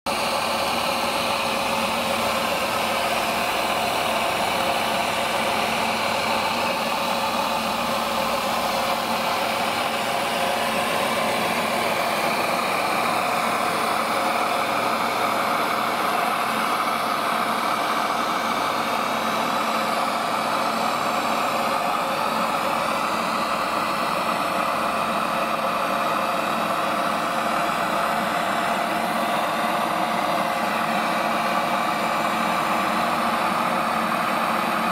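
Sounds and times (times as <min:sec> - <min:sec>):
electric water pump running: 0:00.1 - 0:34.9.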